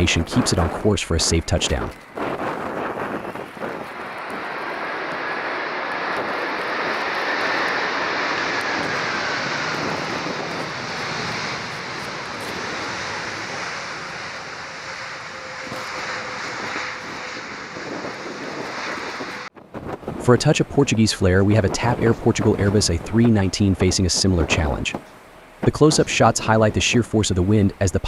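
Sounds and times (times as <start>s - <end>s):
faint jet whine: 0.0s - 28.0s
jet engine rush: 0.0s - 28.0s.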